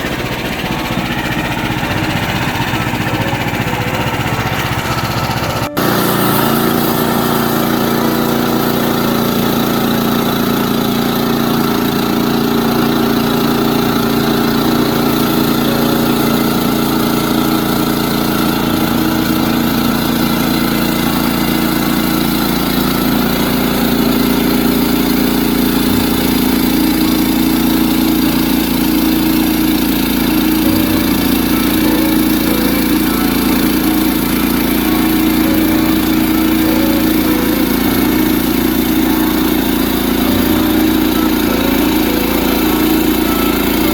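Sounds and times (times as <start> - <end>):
gasoline engine running: 0.0 - 43.9.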